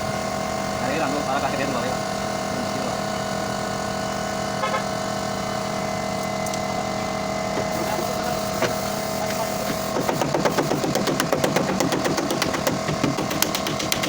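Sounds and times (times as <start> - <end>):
motor drone: 0.0 - 14.0.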